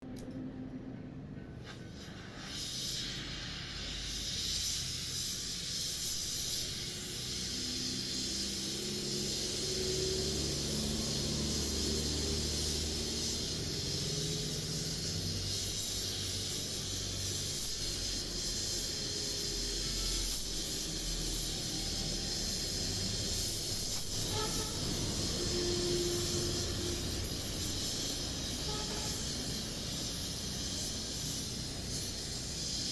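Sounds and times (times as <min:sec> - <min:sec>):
welding torch flame hissing: 0:01.5 - 0:32.9.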